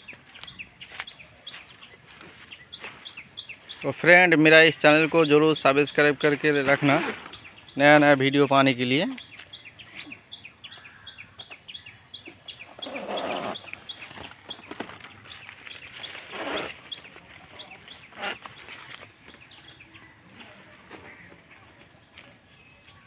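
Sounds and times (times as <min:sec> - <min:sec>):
birds chirping: 0:00.0 - 0:23.0
harsh bird calls: 0:00.0 - 0:23.0.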